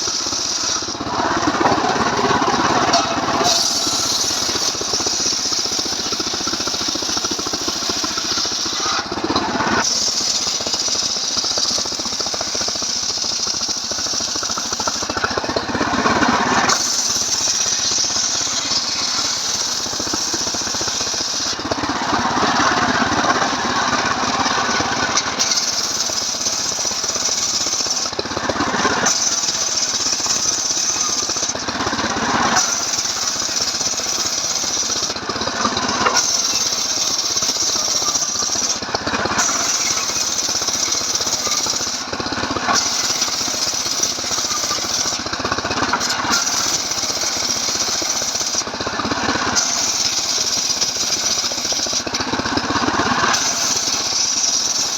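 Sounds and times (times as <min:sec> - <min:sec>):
chainsaw engine ripping timber: 0:00.0 - 0:54.9.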